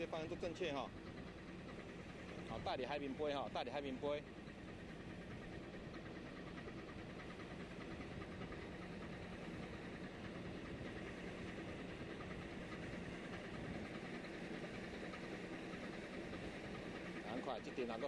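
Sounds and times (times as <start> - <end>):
ship engine droning: 0.0 - 18.0.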